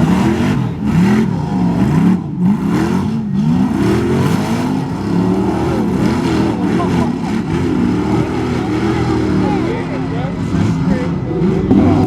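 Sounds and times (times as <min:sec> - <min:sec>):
off-road truck engine revving: 0:00.0 - 0:12.0.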